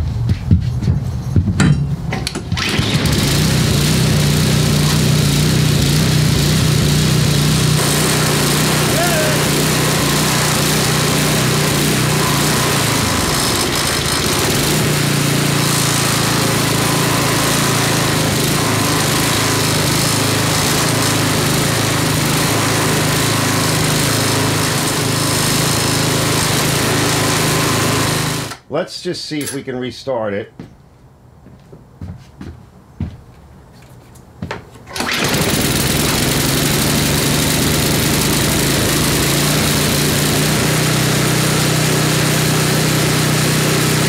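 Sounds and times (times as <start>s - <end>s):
snowblower engine running: 2.2s - 28.6s, 34.9s - 44.0s.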